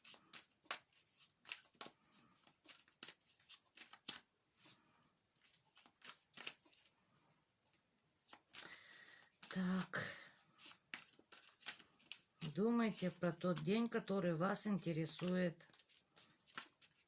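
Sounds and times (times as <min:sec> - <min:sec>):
cards being shuffled: 0:00.0 - 0:04.8, 0:05.4 - 0:07.0, 0:07.7 - 0:14.1, 0:15.1 - 0:17.0.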